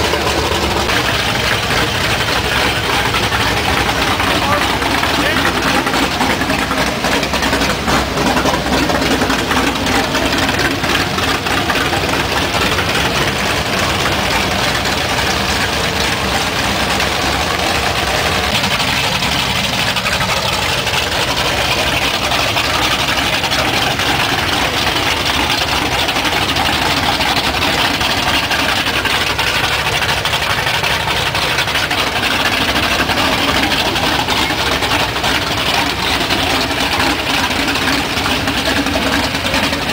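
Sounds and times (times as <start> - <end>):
truck engines running: 0.0 - 39.9.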